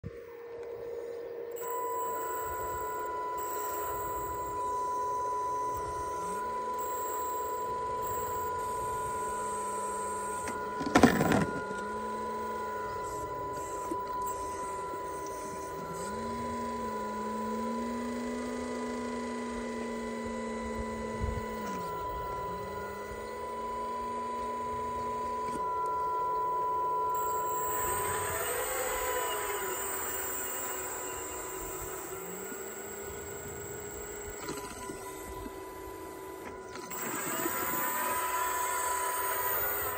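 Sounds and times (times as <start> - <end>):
hydraulic pump whining: 0.0 - 39.9
louder wavering whine: 0.0 - 39.9
lower hum: 0.0 - 39.9.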